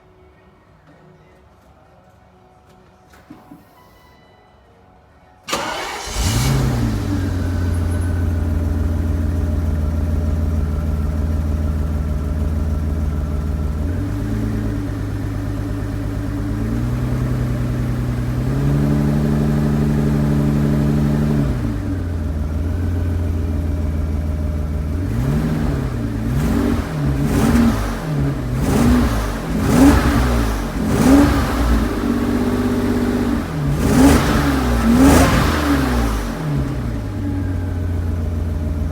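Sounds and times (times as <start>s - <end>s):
car engine idling and revving: 5.5s - 38.9s.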